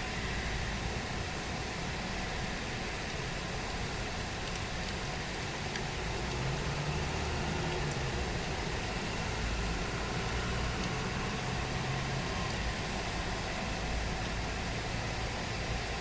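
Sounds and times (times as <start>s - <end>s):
rain falling: 2.9s - 16.0s.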